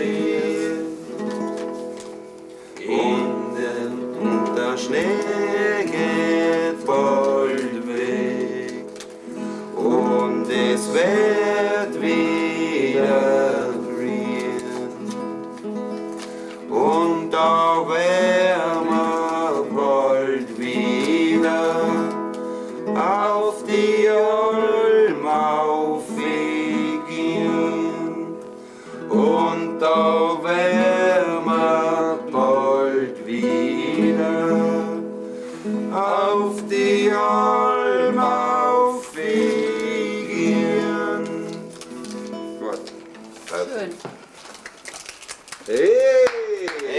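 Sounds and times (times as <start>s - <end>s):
men singing folk song: 0.0s - 1.6s, 2.6s - 15.4s, 16.4s - 41.9s
classical guitar strumming: 0.0s - 43.8s.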